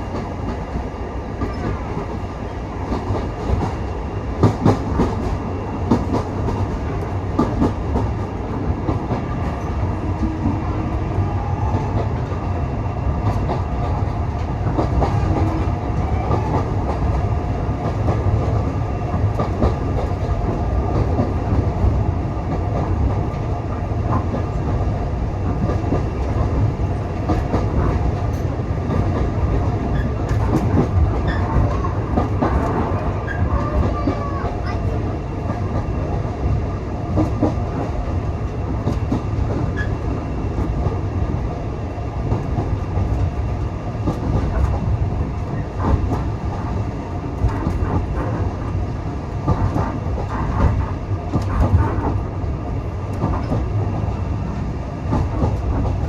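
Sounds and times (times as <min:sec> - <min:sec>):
railway carriage rumbling on track: 0:00.0 - 0:56.0.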